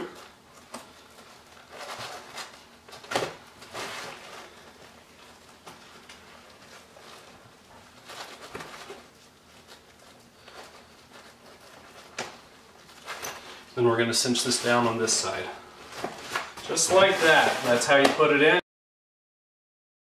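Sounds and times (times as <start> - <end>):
strap and fabric rustling: 0.0 - 18.3.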